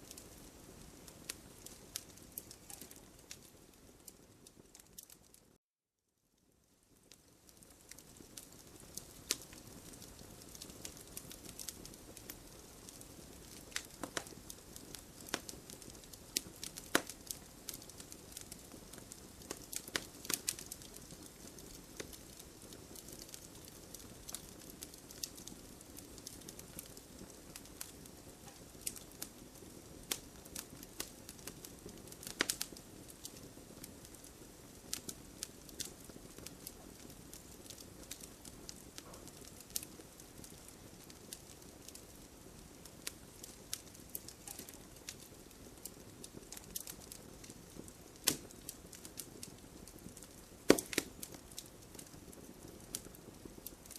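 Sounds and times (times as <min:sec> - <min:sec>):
campfire crackling: 0:00.0 - 0:05.6, 0:06.4 - 0:53.9
soft steady hiss: 0:00.0 - 0:53.9.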